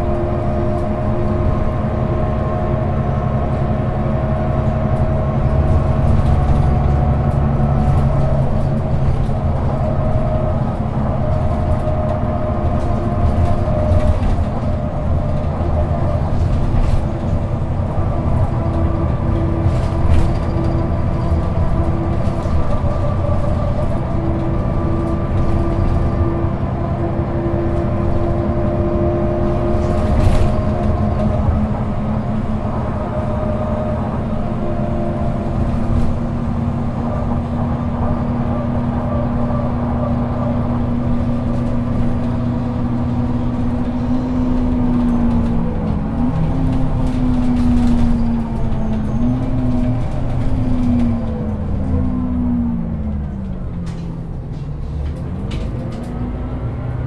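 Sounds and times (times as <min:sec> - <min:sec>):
bus diesel engine idling: 0:00.0 - 0:57.0.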